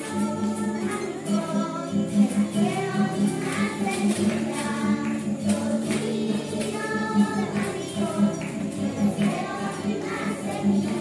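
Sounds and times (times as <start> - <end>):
children singing: 0.0 - 11.0
strummed acoustic guitar: 0.0 - 11.0.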